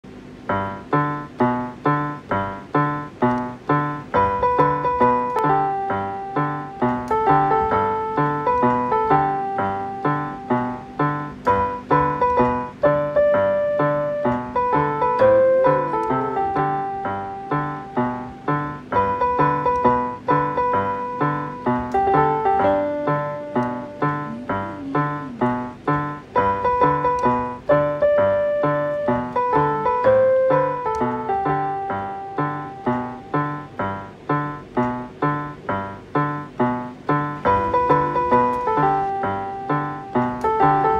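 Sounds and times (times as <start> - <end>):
light piano tune: 0.1 - 40.9.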